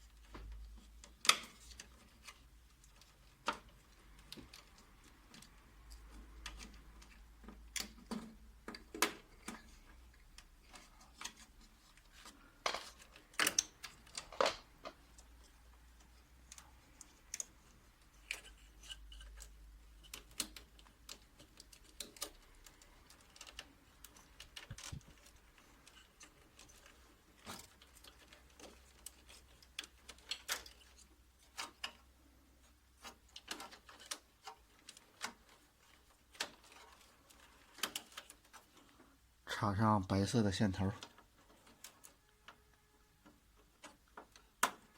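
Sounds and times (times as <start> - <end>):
plastic parts handled: 0.0 - 39.4, 40.5 - 44.9.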